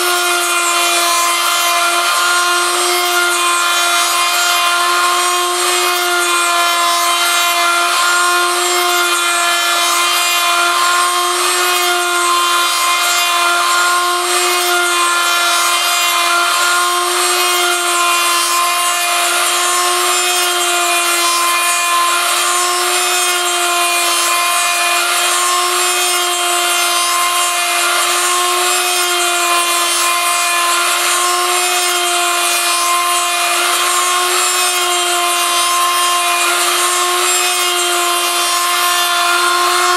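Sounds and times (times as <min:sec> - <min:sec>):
rotary tool whining: 0:00.0 - 0:39.9
wood rasping as milled: 0:00.0 - 0:39.9.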